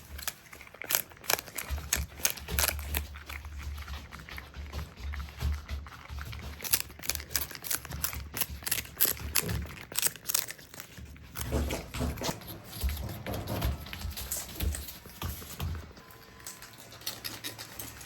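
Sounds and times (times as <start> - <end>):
animals chewing crunchy food: 0.0 - 18.0.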